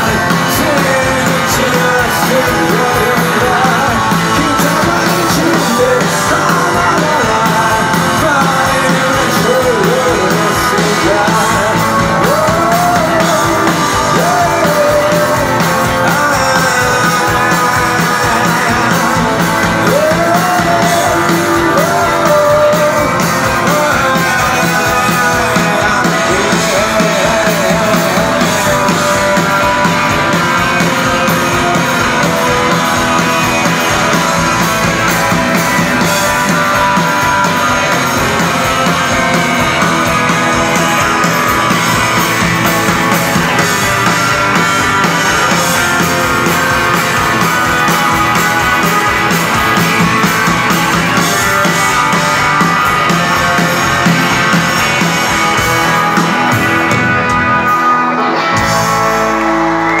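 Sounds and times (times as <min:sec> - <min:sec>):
bass guitar: 0:00.0 - 1:00.0
drums: 0:00.0 - 1:00.0
electric guitars: 0:00.0 - 1:00.0.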